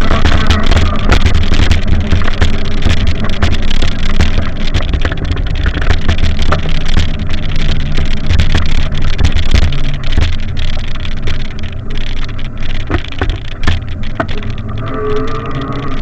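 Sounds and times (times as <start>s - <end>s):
knocks and rattles from bumpy ride: 0.0s - 16.0s.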